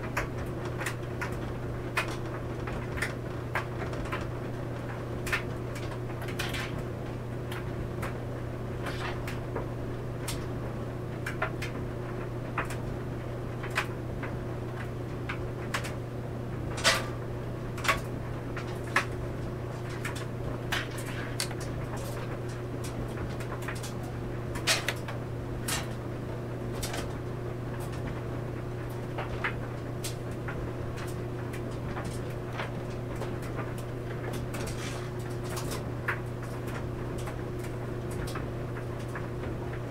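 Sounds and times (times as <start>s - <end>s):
clothes dryer humming: 0.0s - 39.9s.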